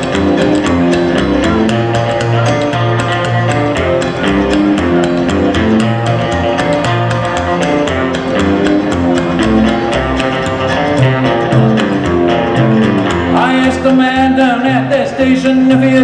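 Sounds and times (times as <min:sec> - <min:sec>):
steady clicking beat: 0:00.0 - 0:14.2
electric guitar: 0:00.0 - 0:16.0
rockabilly band playing: 0:00.0 - 0:16.0
strummed acoustic guitar: 0:00.0 - 0:16.0
upright bass: 0:00.0 - 0:16.0.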